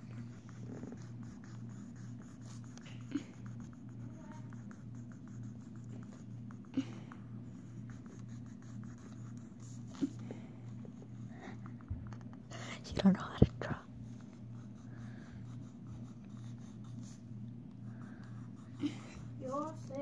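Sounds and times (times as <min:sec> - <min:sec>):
pen scribbling on paper: 0:00.0 - 0:06.7, 0:07.4 - 0:11.8, 0:14.1 - 0:17.3, 0:17.9 - 0:20.0
low steady hum: 0:00.0 - 0:20.0.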